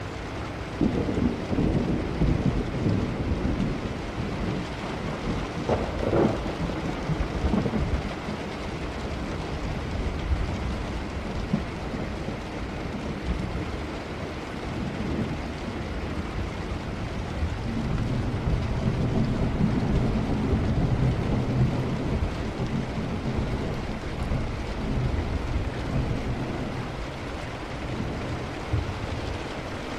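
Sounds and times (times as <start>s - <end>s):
heavy rain: 0.0s - 29.9s
thunder rumbling: 0.7s - 29.9s.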